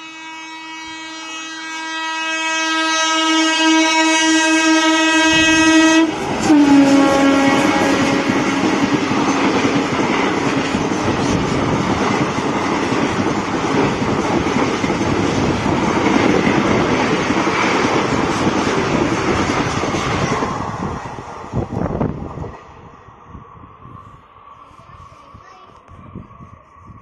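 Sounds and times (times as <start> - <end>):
train coaches rolling past: 0.0 - 27.0.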